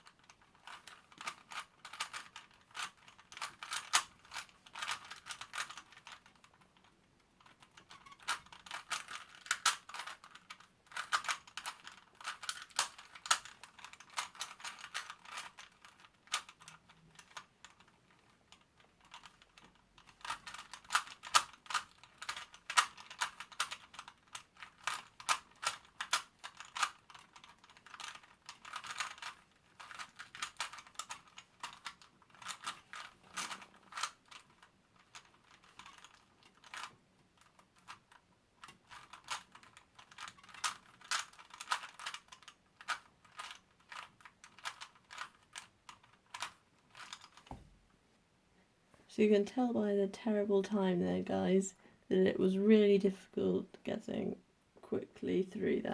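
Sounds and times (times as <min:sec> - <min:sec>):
puzzle cube clicking: 0:00.1 - 0:17.9, 0:18.5 - 0:47.5.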